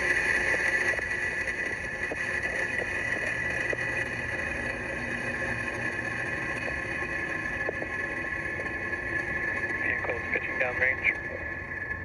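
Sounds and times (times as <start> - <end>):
rocket engine roar: 0.0 - 12.0.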